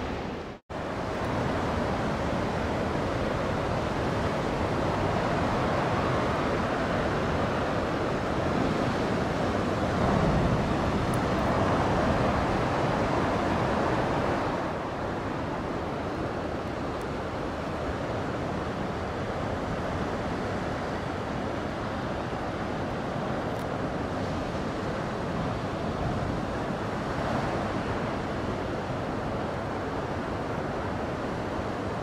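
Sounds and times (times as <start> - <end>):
waves washing onto beach: 0.0 - 32.0.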